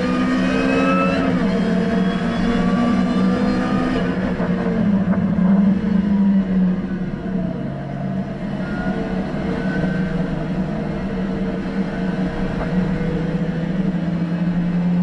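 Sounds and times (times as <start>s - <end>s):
car engine droning: 0.0s - 15.0s
wind and tyre noise: 0.0s - 15.0s.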